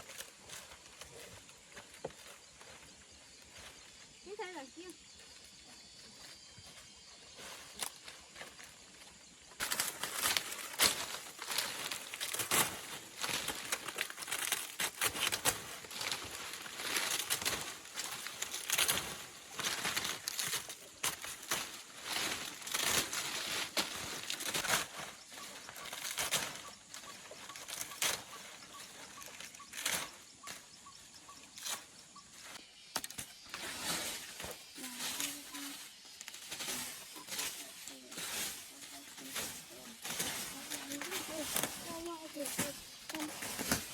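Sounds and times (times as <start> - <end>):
dry leaves rustling and crackling: 0.0 - 4.9, 5.8 - 43.9.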